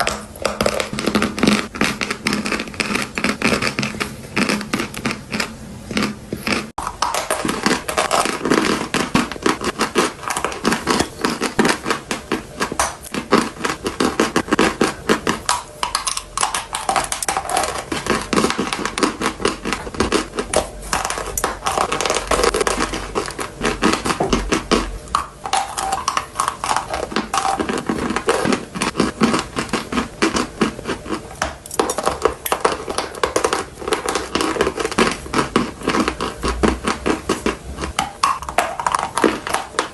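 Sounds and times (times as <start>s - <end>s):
crunchy chewing of chalk: 0.0s - 39.9s.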